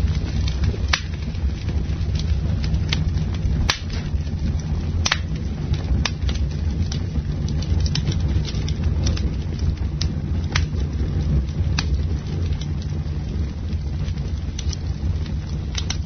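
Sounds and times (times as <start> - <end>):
campfire crackling: 0.0 - 16.0
low fire rumble: 0.0 - 16.0.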